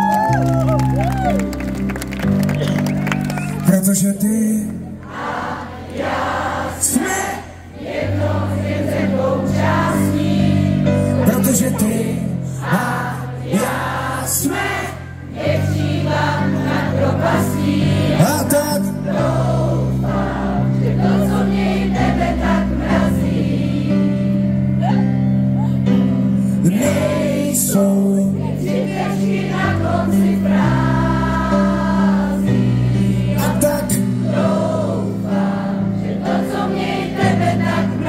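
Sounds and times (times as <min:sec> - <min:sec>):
crowd singing along: 0:04.0 - 0:24.7, 0:26.6 - 0:38.0.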